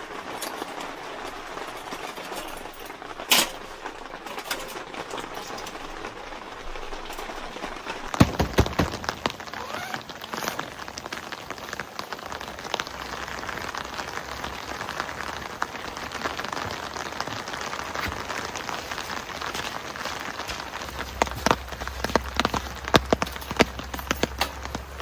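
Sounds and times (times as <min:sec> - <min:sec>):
heavy rain hissing: 0:00.0 - 0:25.0
raindrops tapping on a surface: 0:00.0 - 0:25.0.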